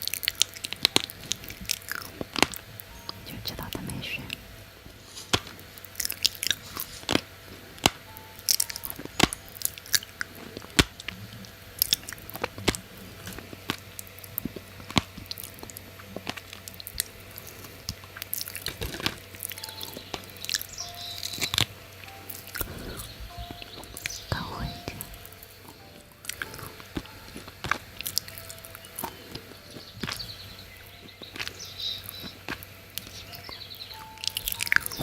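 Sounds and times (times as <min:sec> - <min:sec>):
person chewing crunchy food: 0:00.0 - 0:02.8, 0:04.9 - 0:35.0.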